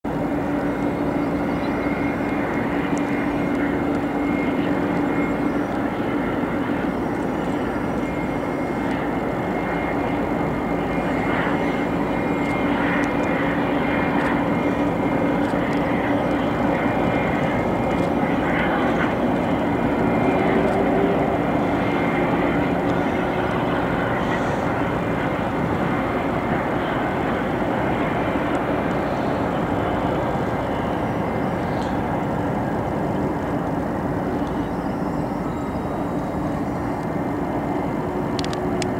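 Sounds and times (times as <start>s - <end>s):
jet engines running at taxi power: 0.0s - 38.9s.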